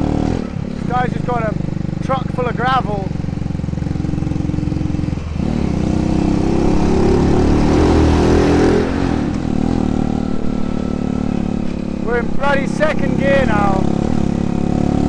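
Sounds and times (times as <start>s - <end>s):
motorbike engine under load: 0.0s - 15.0s.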